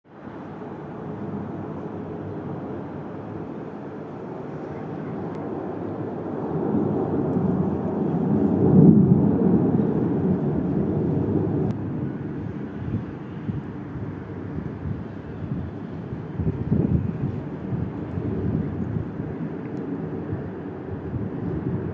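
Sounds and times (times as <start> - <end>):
airplane passing overhead: 0.1 - 21.9.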